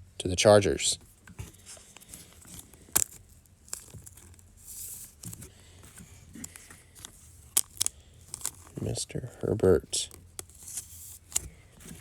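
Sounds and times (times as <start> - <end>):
cards rustling: 0.9 - 12.0.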